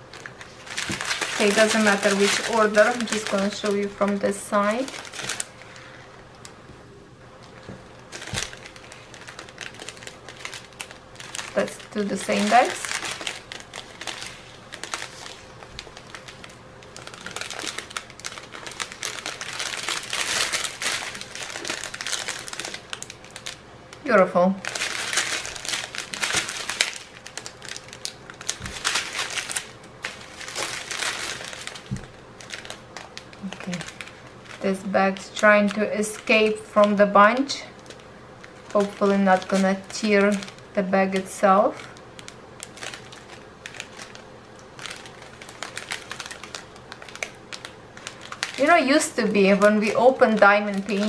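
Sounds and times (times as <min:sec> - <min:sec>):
plastic bags crinkling: 0:00.0 - 0:06.6, 0:07.3 - 0:51.0.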